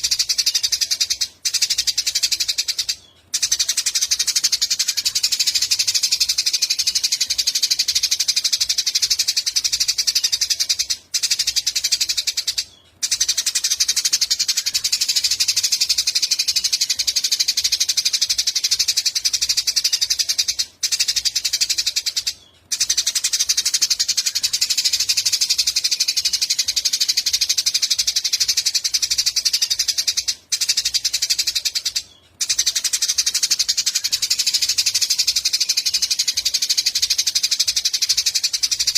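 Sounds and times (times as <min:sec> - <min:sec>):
songbird rapid chirping: 0:00.0 - 0:38.9.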